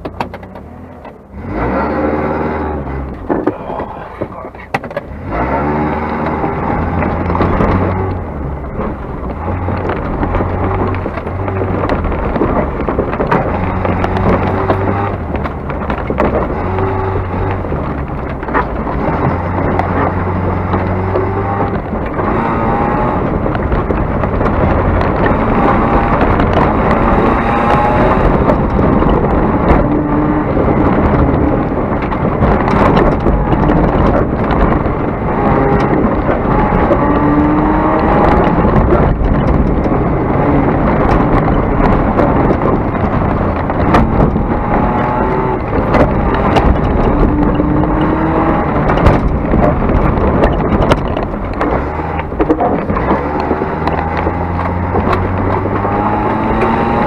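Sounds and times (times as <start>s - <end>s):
sharp clicks and knocks: 0.0s - 1.8s, 2.8s - 57.0s
car engine accelerating: 0.0s - 57.0s
tyre and wind noise: 0.0s - 57.0s.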